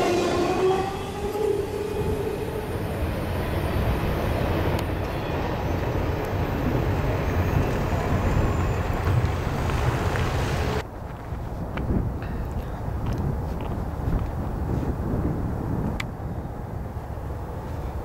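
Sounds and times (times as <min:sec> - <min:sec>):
freight train rumble: 0:00.0 - 0:18.0.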